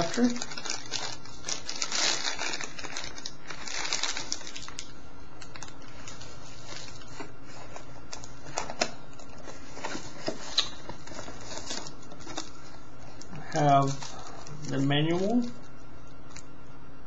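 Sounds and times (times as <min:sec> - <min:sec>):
plastic packaging crinkling: 0:00.0 - 0:16.5.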